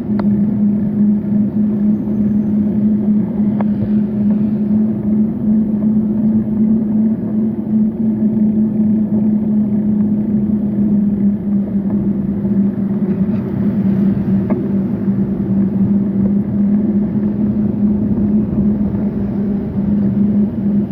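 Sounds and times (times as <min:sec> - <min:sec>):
vehicle road and wind noise: 0:00.0 - 0:20.9.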